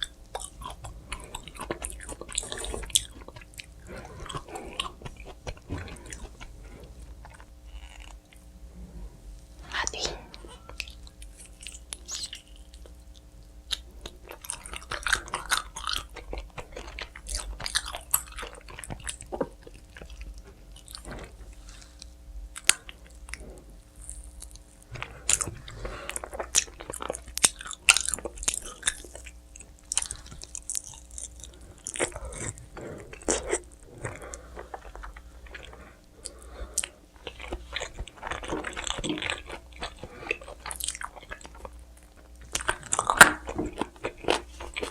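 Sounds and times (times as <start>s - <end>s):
chewing and biting pizza: 0.0s - 8.6s, 10.0s - 44.9s.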